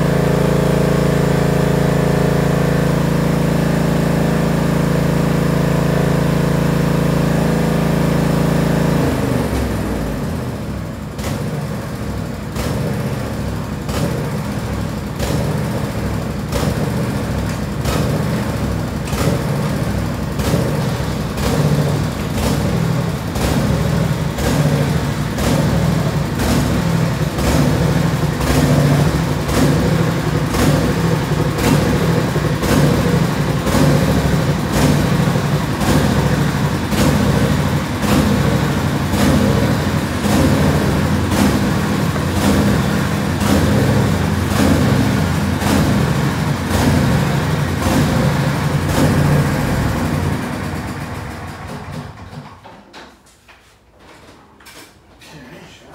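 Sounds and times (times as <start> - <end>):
tractor engine running: 0.0 - 52.7.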